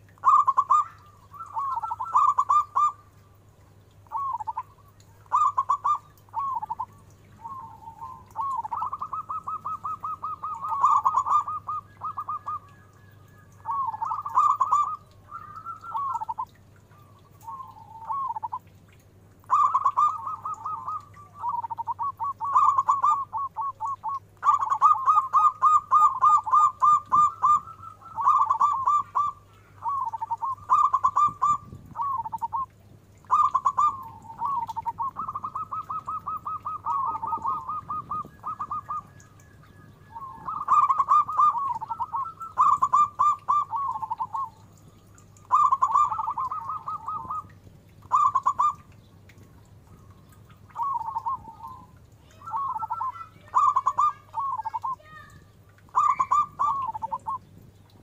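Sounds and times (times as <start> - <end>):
dove cooing: 0.0 - 3.2, 3.8 - 57.5.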